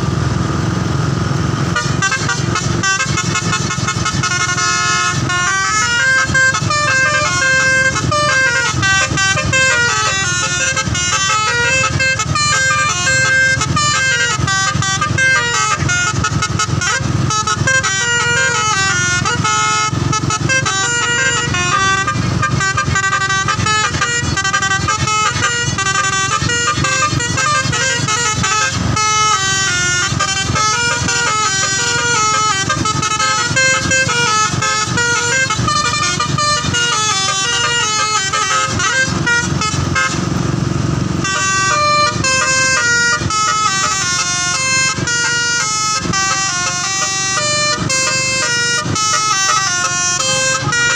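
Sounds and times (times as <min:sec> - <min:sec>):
musical air horn melody: 0:01.7 - 0:40.4, 0:41.0 - 0:50.9.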